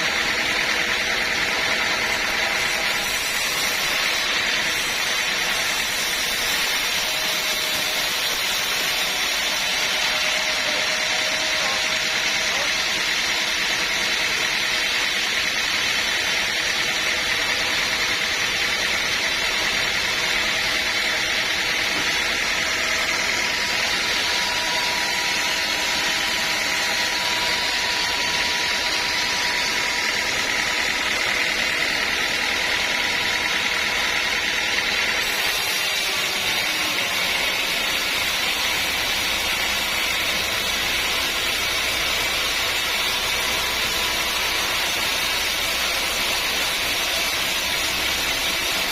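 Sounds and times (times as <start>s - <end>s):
sawmill machinery running: 0.0s - 48.9s.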